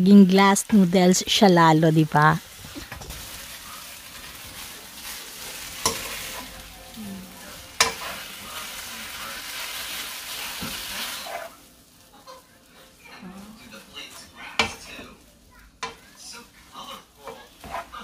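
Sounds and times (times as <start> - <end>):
food sizzling in a wok: 0.0 - 18.0
spatula stirring and tossing: 0.0 - 18.0.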